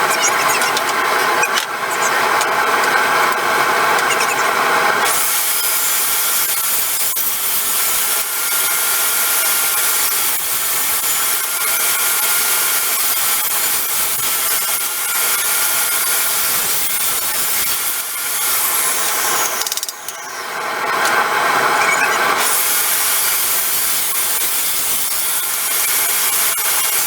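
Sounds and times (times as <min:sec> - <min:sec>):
power tool on wood: 0:00.0 - 0:27.0.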